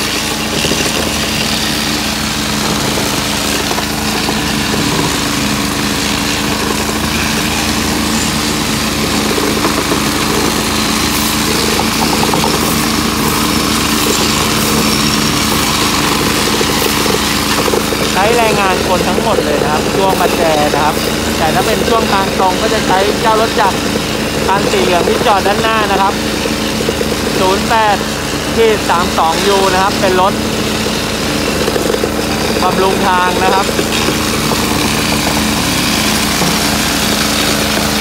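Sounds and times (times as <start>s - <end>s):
electric tampers vibrating: 0.0s - 38.0s
generator running: 0.0s - 38.0s.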